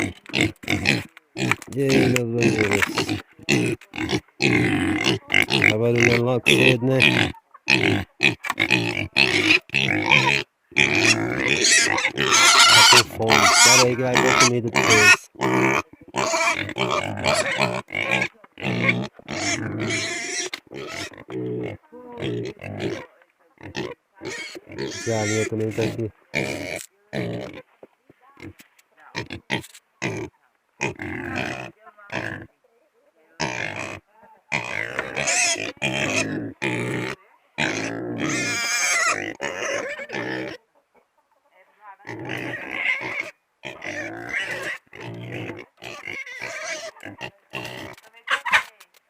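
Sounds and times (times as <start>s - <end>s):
pigs calling loudly: 0.0s - 27.6s, 29.2s - 32.5s, 33.4s - 40.6s, 42.0s - 48.7s.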